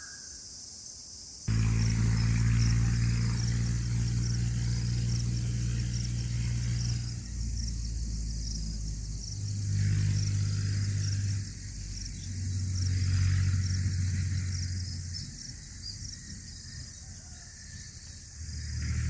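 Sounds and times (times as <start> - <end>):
engine humming: 1.5 - 19.0.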